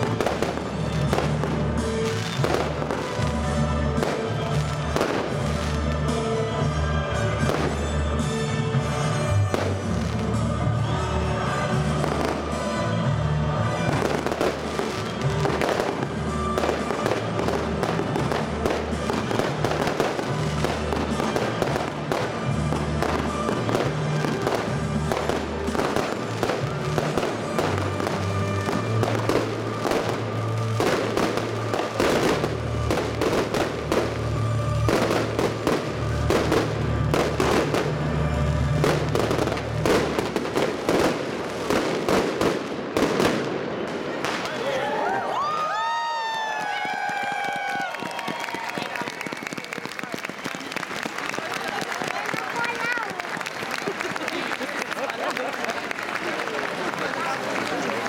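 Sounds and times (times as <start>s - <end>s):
fireworks cracking and popping: 0.0s - 58.0s.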